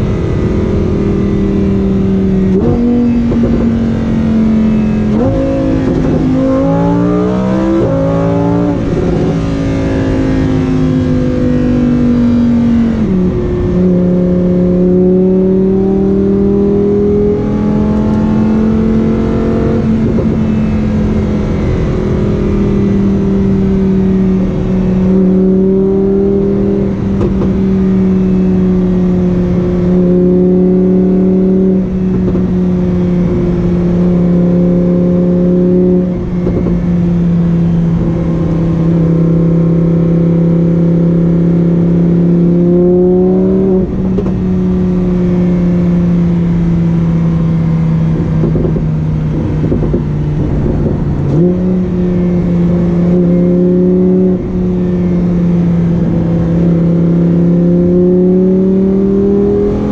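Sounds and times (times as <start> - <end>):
car engine running loud: 0.0 - 59.9.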